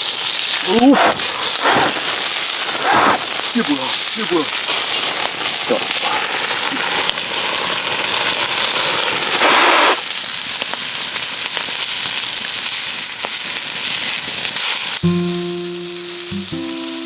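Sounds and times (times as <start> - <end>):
meat sizzling in a hot pan: 0.0 - 17.0.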